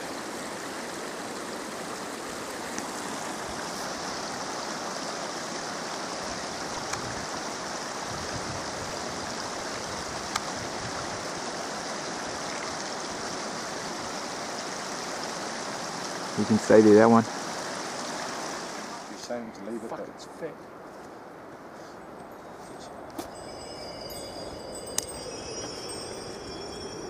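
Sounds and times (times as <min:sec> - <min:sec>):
mountain stream rushing: 0:00.0 - 0:21.5, 0:23.2 - 0:27.0.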